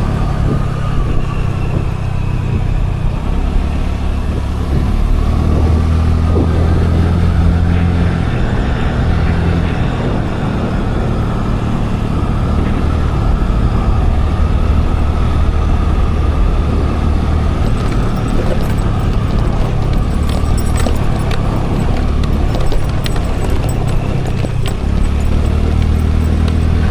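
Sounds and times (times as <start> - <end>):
road and wind noise: 0.0 - 26.9
scooter engine running: 0.0 - 26.9.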